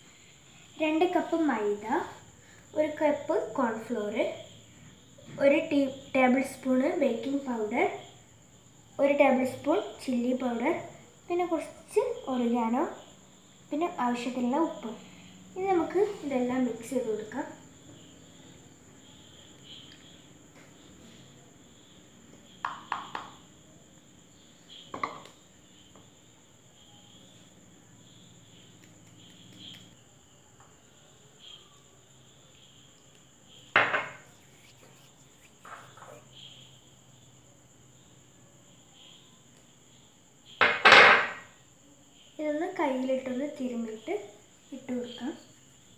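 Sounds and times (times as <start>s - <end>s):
faint high-pitched hum: 0.0s - 40.6s.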